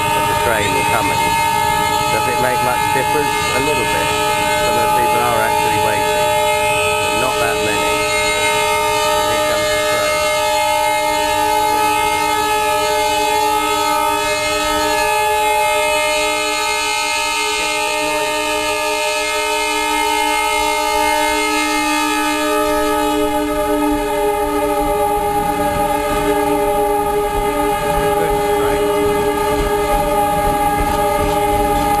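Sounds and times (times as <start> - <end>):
train horn blast: 0.0 - 32.0
train rumble: 0.0 - 32.0.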